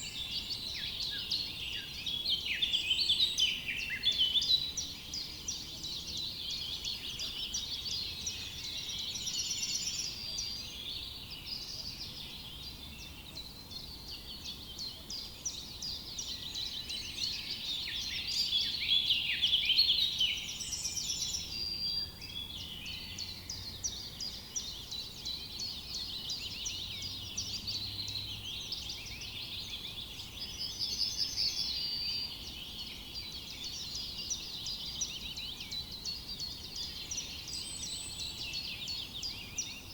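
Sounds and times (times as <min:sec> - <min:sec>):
songbirds chirping in chorus: 0:00.0 - 0:39.9.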